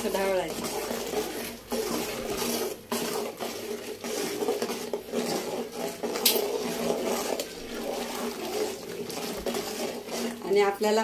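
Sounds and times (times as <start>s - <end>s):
boiling water: 0.0s - 11.0s.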